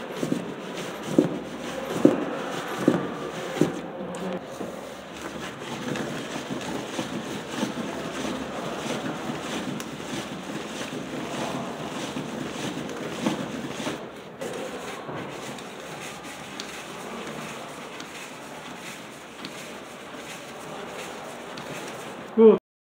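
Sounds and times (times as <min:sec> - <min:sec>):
cardboard mechanism scraping: 0:00.0 - 0:22.3.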